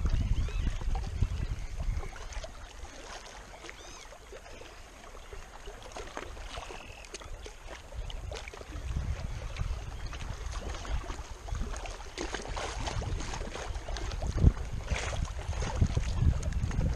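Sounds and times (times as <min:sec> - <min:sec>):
wind rumbling on microphone: 0:00.0 - 0:04.0, 0:06.2 - 0:16.9
small waves lapping on rocks: 0:00.0 - 0:16.9.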